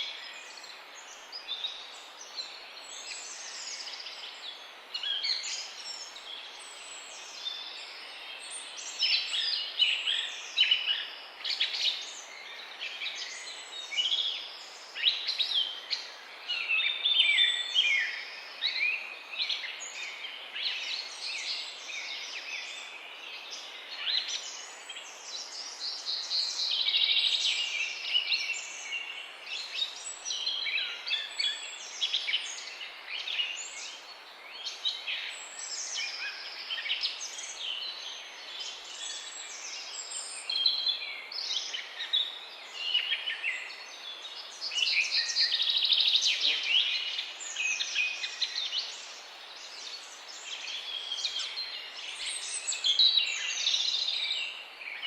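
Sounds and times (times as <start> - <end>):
background hiss: 0.0 - 55.0
songbirds chirping and trilling: 0.0 - 55.0.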